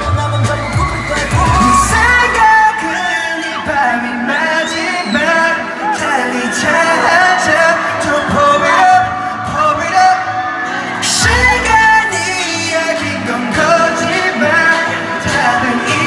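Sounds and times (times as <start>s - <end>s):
backing track through speakers: 0.0s - 16.0s
man singing into microphone: 0.0s - 16.0s.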